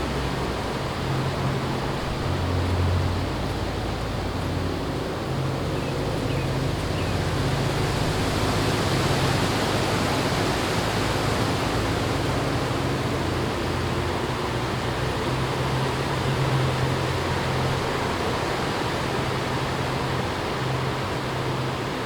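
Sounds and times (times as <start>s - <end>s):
distant highway traffic hum: 0.0s - 22.0s
wind rushing through trees: 0.0s - 22.0s.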